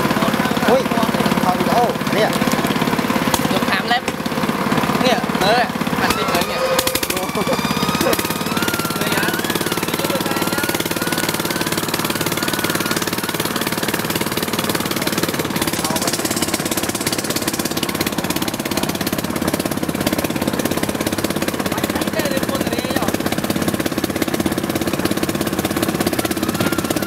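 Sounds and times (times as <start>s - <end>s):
small engine chugging: 0.0s - 27.0s.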